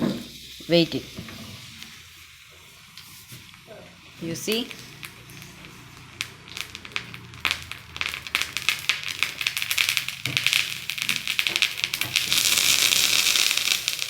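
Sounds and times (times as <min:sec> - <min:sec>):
chemical reaction crackling and sizzling: 0:00.0 - 0:14.0.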